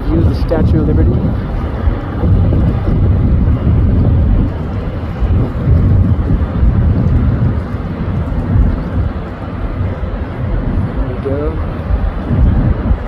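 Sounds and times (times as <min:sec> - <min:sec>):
boat engine running: 0:00.0 - 0:13.0
wind buffeting microphone: 0:00.0 - 0:13.0.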